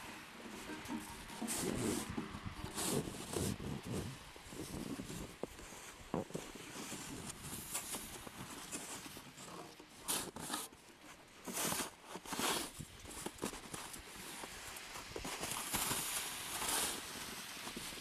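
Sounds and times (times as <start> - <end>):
snow pusher scraping packed snow: 0.0 - 10.7, 11.4 - 18.0.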